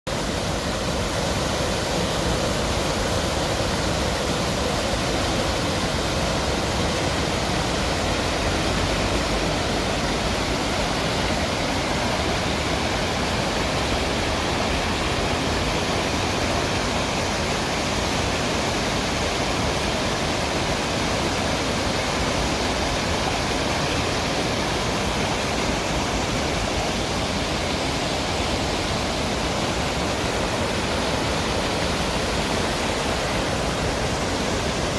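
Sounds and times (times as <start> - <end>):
rushing water: 0.1 - 34.9.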